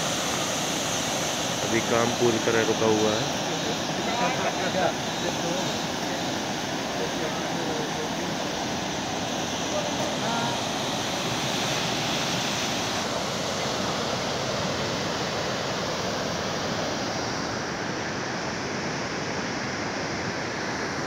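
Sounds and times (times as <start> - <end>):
turbulent water rushing: 0.0 - 21.0.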